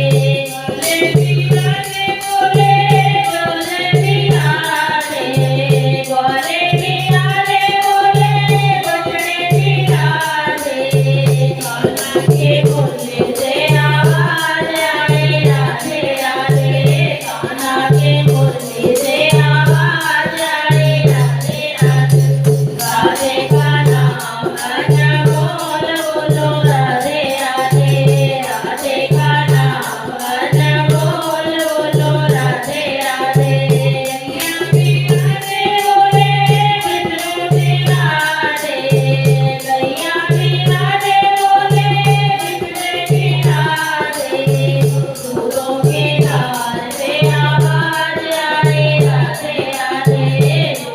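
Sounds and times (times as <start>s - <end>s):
people singing: 0.0s - 50.9s
ticking percussion: 0.0s - 50.9s.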